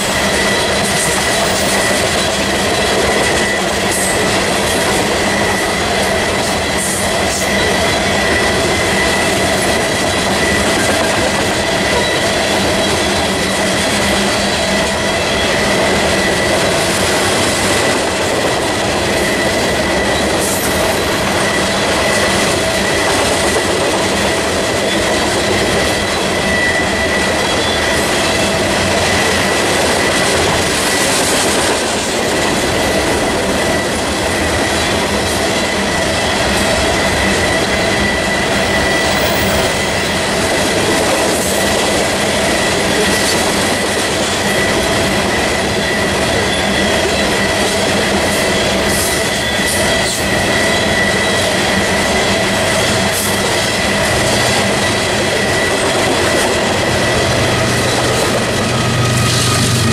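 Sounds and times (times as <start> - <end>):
high-pitched ringing tones: 0.0 - 59.9
train wheels rumbling on rails: 0.0 - 59.9.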